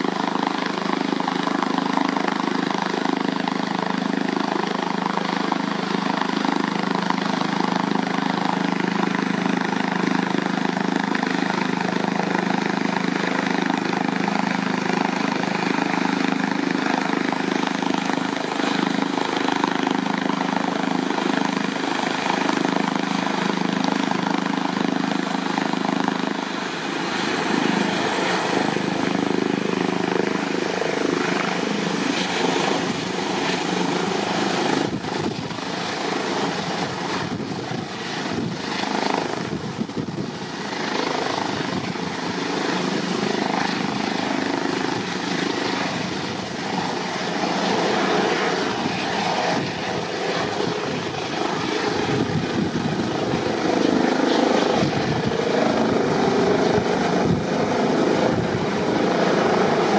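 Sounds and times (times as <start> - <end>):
helicopter rotor and turbine: 0.0 - 59.9
high turbine whine: 0.0 - 59.9.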